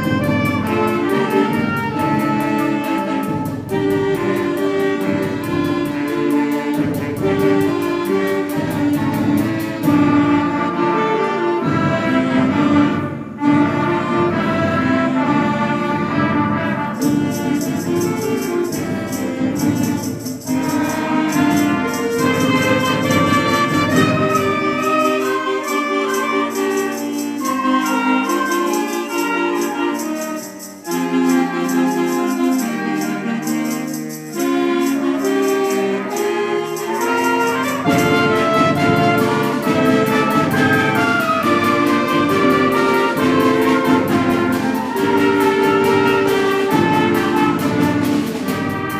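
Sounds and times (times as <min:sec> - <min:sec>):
concert band playing: 0:00.0 - 0:48.9
rattling high percussion: 0:00.0 - 0:48.9.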